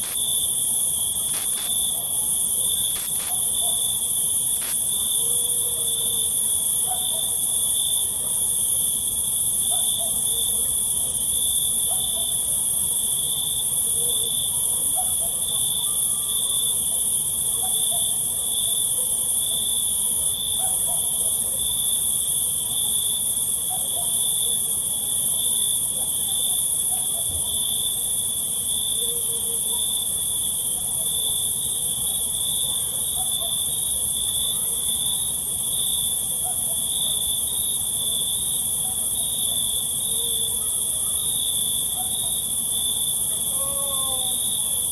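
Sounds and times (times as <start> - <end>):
cricket trilling: 0.0 - 44.9
insects hissing: 0.0 - 44.9.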